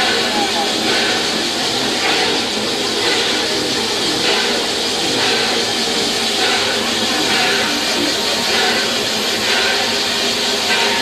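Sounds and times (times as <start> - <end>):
locomotive engine: 0.0 - 11.0
steam hissing: 0.0 - 11.0.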